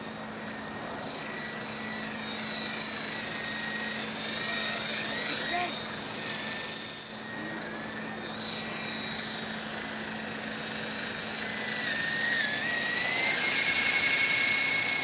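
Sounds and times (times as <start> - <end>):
toy helicopter motor whine: 0.0 - 15.0.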